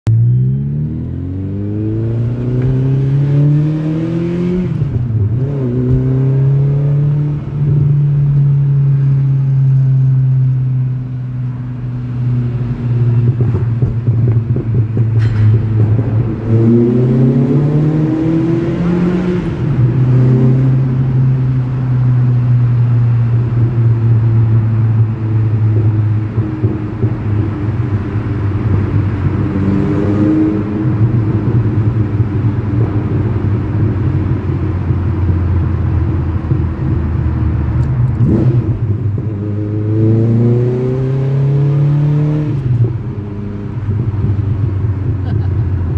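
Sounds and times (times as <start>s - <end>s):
car engine revving in tunnel: 0.1s - 45.9s.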